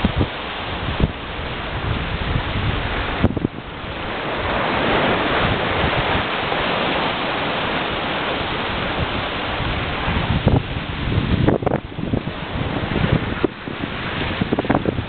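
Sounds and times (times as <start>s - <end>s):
rush of choppy ocean water: 0.0s - 15.0s
wind on microphone: 0.0s - 15.0s.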